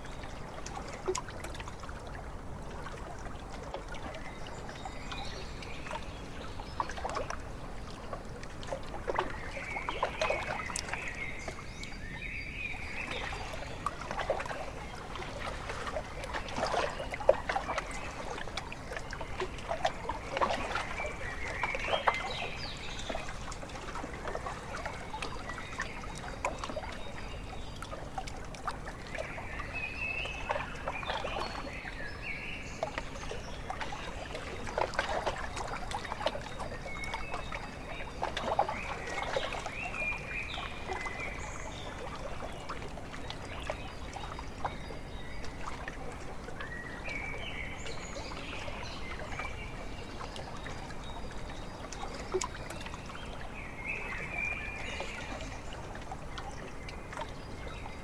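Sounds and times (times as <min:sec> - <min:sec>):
low water rush: 0:00.0 - 0:58.0
small waves lapping: 0:00.0 - 0:58.0.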